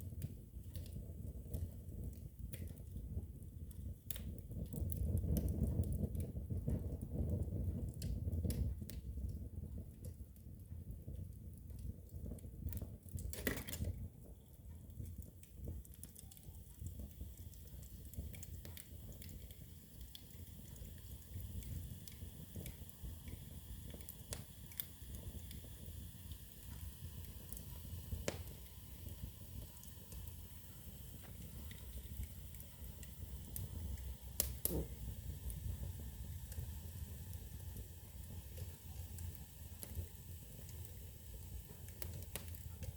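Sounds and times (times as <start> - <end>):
fire crackling and popping: 0.0 - 42.9
wood fire burning: 0.0 - 42.9.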